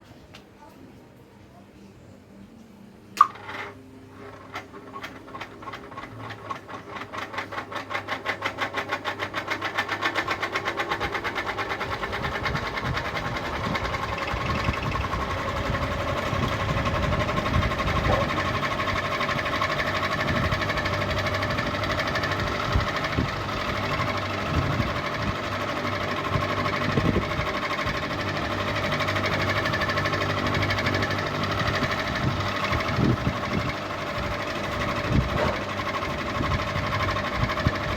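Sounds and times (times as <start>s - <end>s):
ceiling fan whirring: 0.0s - 37.9s.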